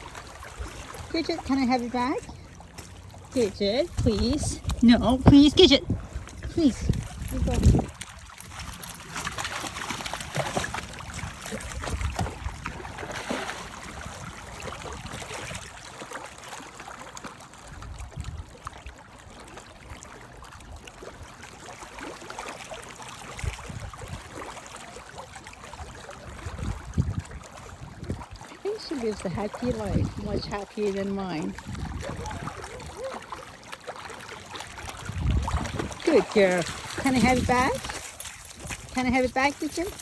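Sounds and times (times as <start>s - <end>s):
water splashing and gurgling: 0.0s - 40.0s.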